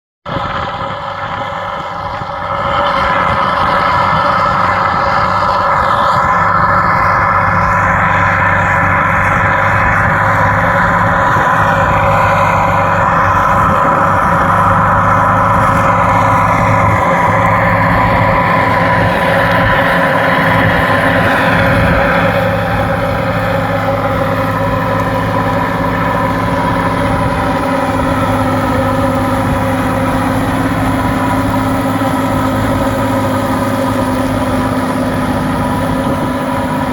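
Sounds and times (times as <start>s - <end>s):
engine idling: 0.3s - 36.9s.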